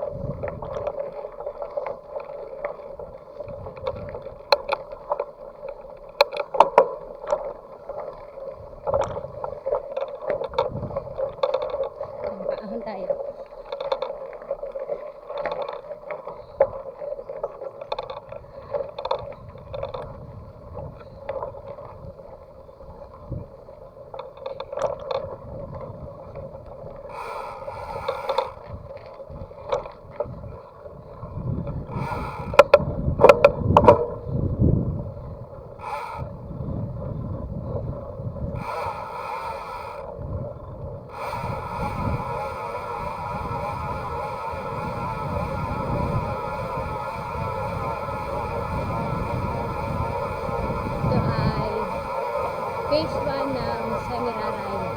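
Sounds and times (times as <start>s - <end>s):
bicycle hub freewheeling buzz: 0.0s - 54.9s.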